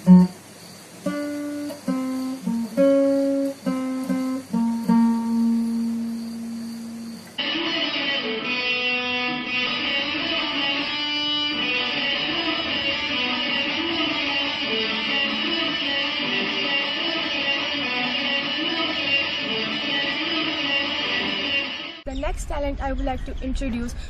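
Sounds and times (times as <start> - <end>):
electric guitar playing a tune: 0.0 - 0.4, 1.0 - 22.0.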